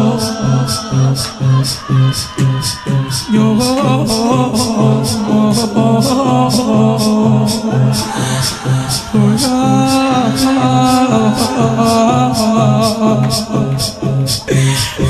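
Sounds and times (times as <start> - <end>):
men chanting mournful melody: 0.0 - 15.0.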